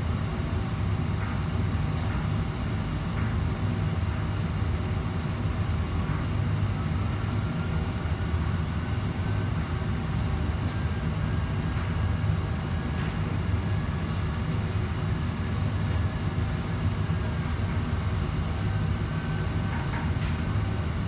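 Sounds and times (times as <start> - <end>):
ventilation rumble: 0.0 - 21.0.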